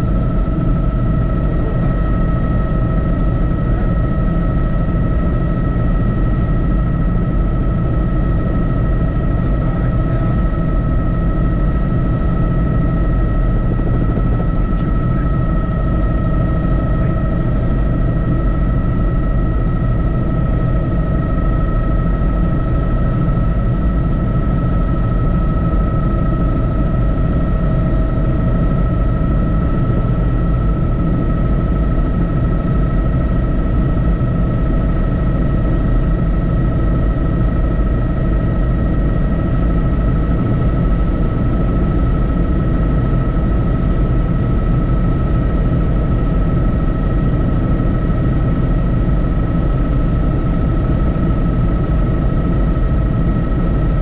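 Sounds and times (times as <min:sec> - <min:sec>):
helicopter low rumble: 0:00.0 - 0:54.0.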